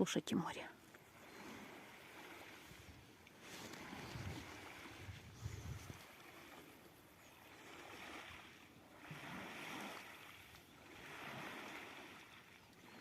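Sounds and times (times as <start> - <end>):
waves washing against shore: 1.0 - 13.0.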